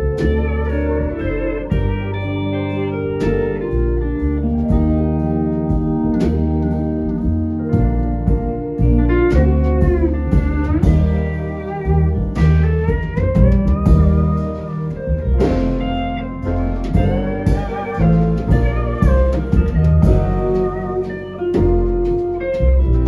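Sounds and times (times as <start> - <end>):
drums: 0.0 - 23.0
electric guitar: 0.0 - 23.0
keyboards: 0.0 - 23.0
pedal steel guitar melody: 0.0 - 23.0
upright bass: 0.0 - 23.0.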